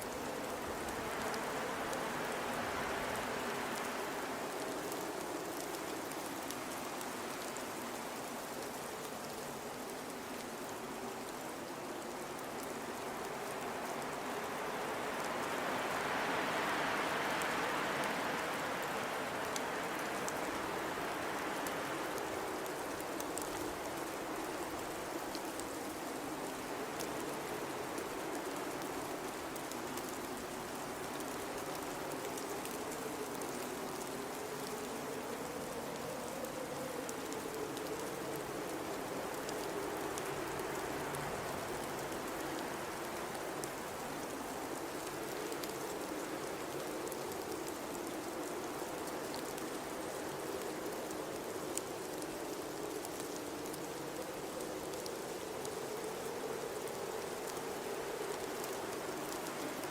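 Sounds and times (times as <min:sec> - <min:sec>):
blizzard wind blowing: 0:00.0 - 0:59.9.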